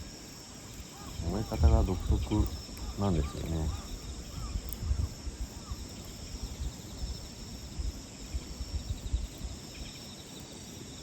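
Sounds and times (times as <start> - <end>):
campfire popping and rustling: 0.0 - 10.6
crickets chirping: 0.0 - 11.0.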